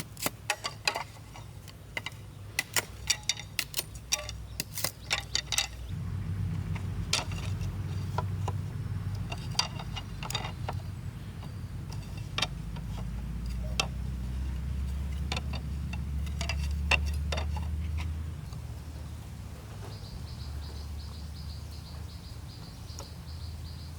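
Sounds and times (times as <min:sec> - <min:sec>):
low steady hum: 0:02.3 - 0:23.9.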